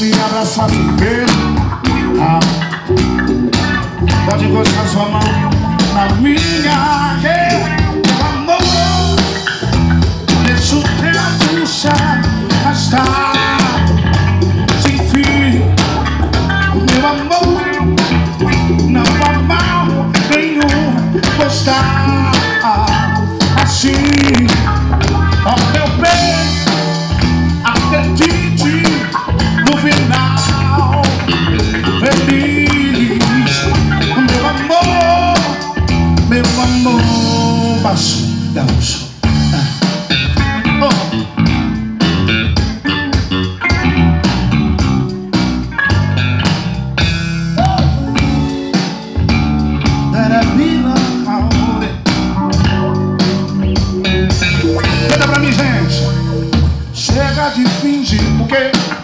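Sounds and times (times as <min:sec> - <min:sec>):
person singing: 0:00.0 - 0:41.4, 0:47.6 - 0:49.2, 0:50.1 - 0:59.0
soul band playing: 0:00.0 - 0:59.0.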